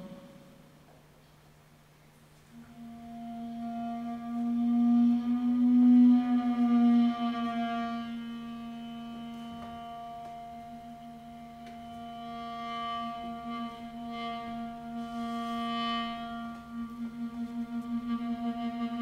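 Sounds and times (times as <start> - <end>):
held droning tone: 0.0 - 19.0.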